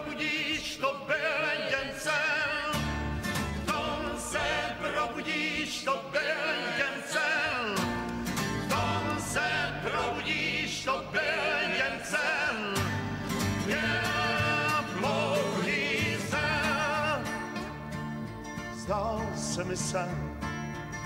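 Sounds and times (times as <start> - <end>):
folk group singing in harmony: 0.0 - 20.2
strummed acoustic guitars: 0.0 - 21.0.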